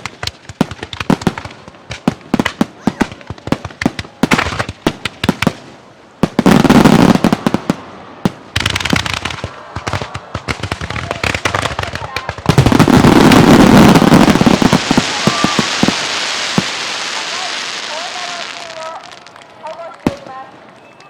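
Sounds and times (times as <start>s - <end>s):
aerial fireworks bangs and crackles: 0.0s - 20.6s.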